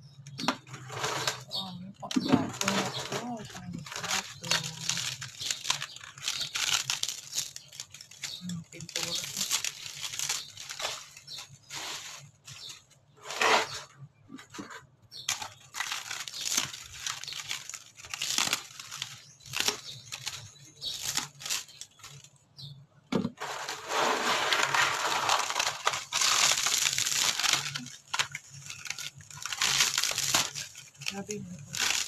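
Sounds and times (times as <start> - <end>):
board crackling and tearing: 0.3 - 22.7, 23.3 - 32.0.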